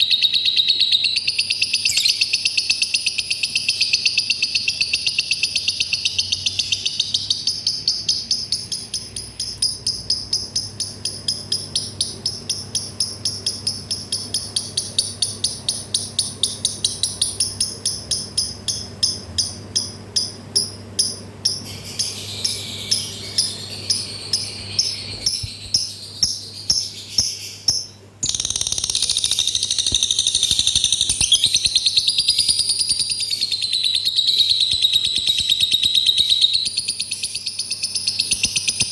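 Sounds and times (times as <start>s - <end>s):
lovebird chirping rapidly: 0.0s - 18.8s, 21.4s - 38.9s.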